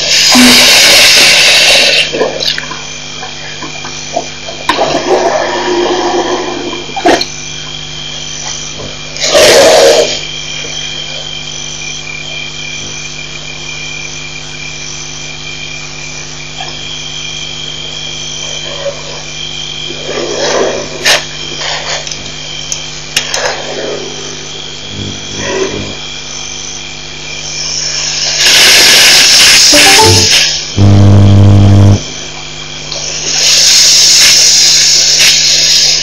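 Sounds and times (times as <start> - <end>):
frogs and insects chorus: 0.0 - 30.8, 32.0 - 36.0
electrical hum: 0.0 - 32.4.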